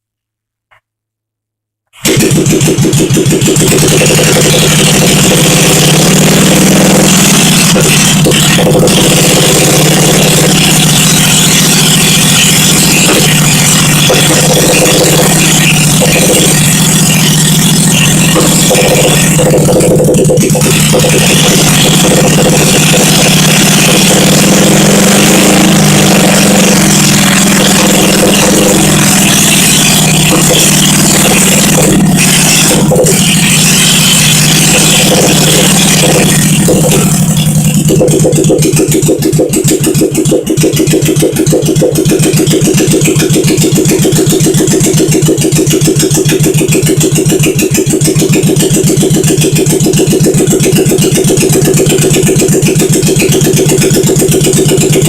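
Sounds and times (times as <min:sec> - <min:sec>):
motorcycle engine starting and running: 0:01.9 - 0:55.0.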